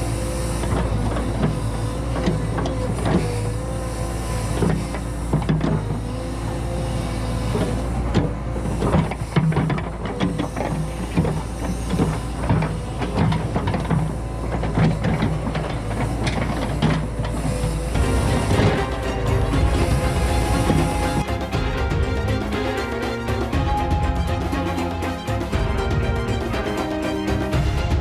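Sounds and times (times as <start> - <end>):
excavator diesel engine droning: 0.0 - 28.0
hydraulic whine: 0.0 - 28.0.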